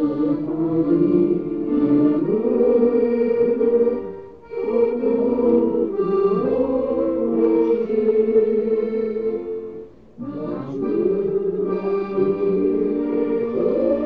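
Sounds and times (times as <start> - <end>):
group singing folk song: 0.0 - 14.0.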